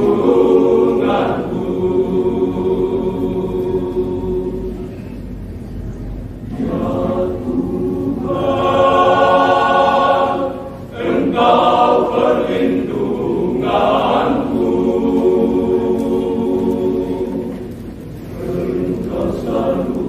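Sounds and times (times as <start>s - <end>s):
men's choir singing: 0.0s - 4.9s, 6.5s - 20.0s.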